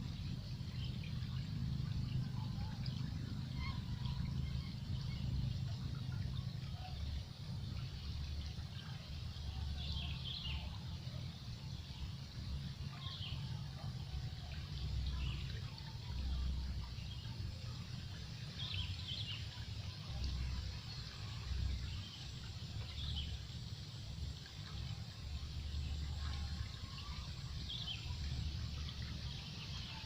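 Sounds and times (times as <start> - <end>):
river low rumble: 0.0 - 30.0
steady water hiss: 0.0 - 30.0.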